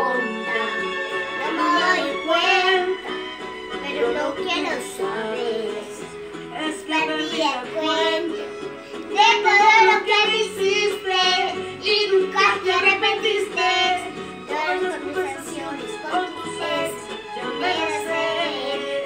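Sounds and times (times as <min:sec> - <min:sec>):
girl singing: 0:00.0 - 0:00.8, 0:01.4 - 0:03.1, 0:03.8 - 0:08.5, 0:09.1 - 0:19.0
background music: 0:00.0 - 0:19.0.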